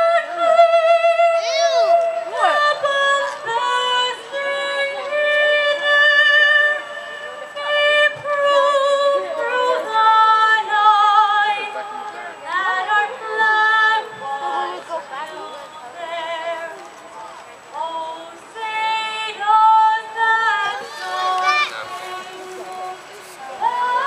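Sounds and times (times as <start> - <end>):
woman singing with vibrato: 0.0 - 17.1, 17.7 - 24.0.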